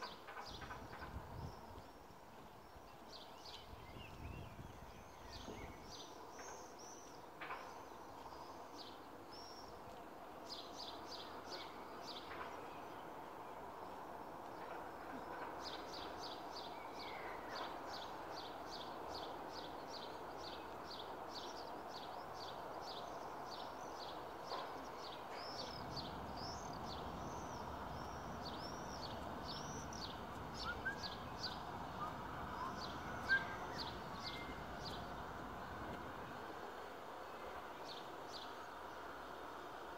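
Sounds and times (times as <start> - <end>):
small birds chirping: 0.0 - 39.9
steady low background noise: 0.0 - 39.9.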